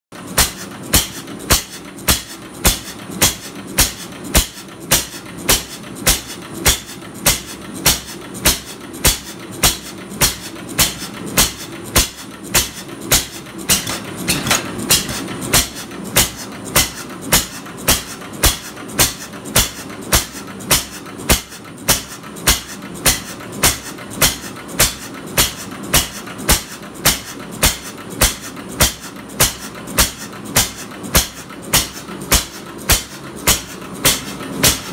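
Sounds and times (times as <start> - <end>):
stationary engine exhaust banging: 0.1 - 34.9.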